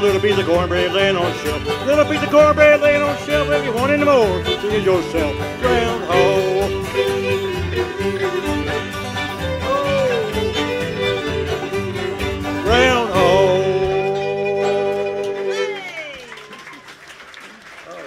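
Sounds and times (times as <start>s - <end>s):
bluegrass string band playing: 0.0s - 16.1s.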